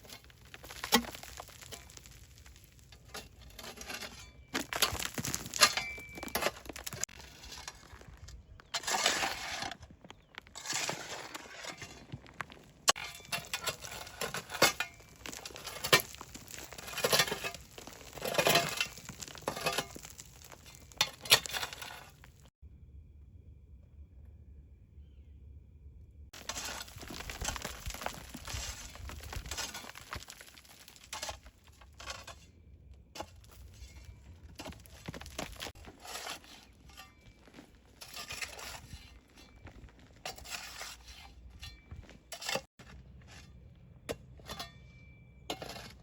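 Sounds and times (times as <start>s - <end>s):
scraping and rustling: 0.0s - 22.5s, 26.4s - 32.5s, 33.2s - 43.6s.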